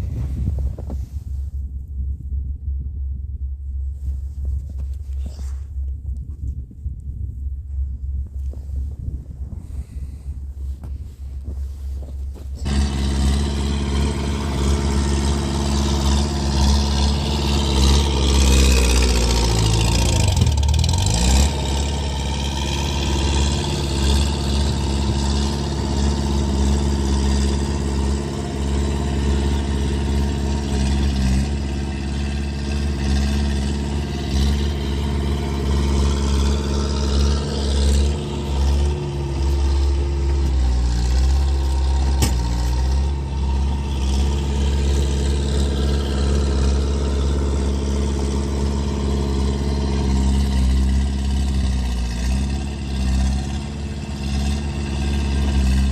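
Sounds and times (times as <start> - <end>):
skid steer engine running: 8.1 - 55.9.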